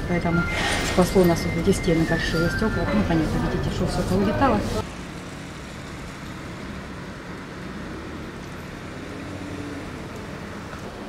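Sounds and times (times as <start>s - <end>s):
hum of vehicle traffic: 0.0s - 11.0s.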